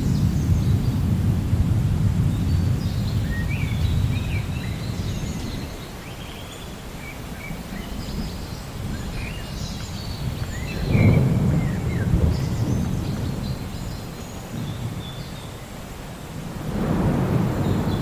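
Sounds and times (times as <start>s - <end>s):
distant thunder rumbling: 0.0s - 5.8s, 7.9s - 18.0s
small birds chirping: 2.2s - 18.0s.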